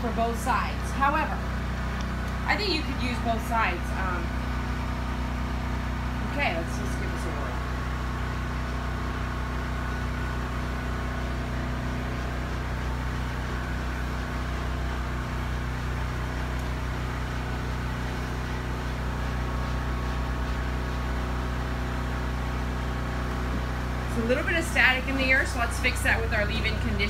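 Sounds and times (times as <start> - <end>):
generator humming: 0.0 - 27.0.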